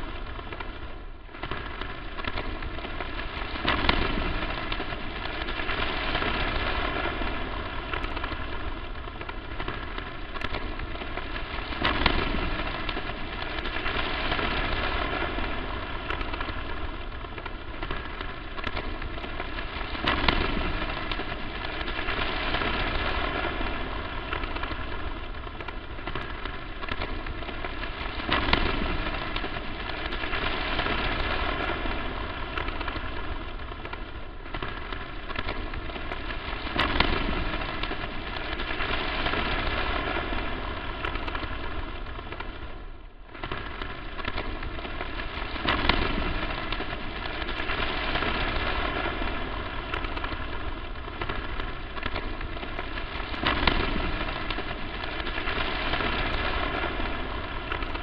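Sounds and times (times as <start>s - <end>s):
crackling static hiss: 0.0s - 58.0s.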